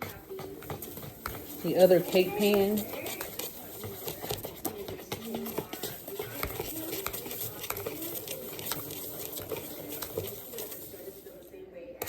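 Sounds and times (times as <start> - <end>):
utensils clinking on dishes: 0.0 - 11.2.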